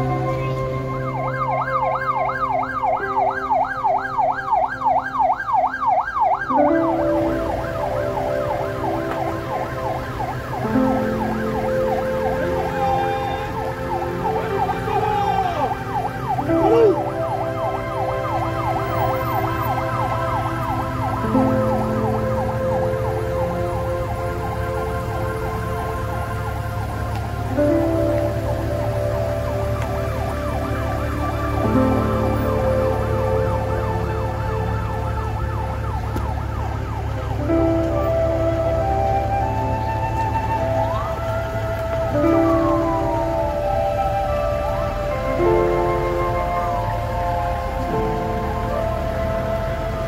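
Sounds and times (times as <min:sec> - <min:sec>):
police siren yelping: 0:00.0 - 0:50.0.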